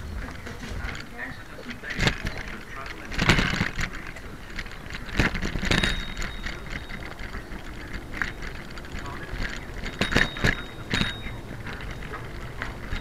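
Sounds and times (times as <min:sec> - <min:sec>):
bicycle rattling over paving: 0:00.0 - 0:13.0.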